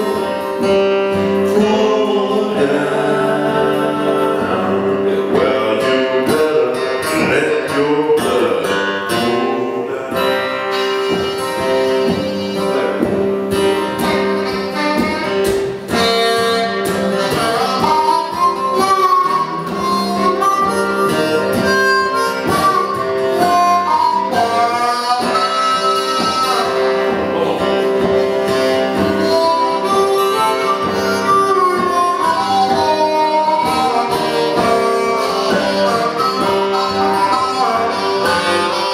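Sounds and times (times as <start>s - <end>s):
acoustic guitar accompaniment: 0.0s - 38.9s
harmonica wailing lead: 0.0s - 38.9s.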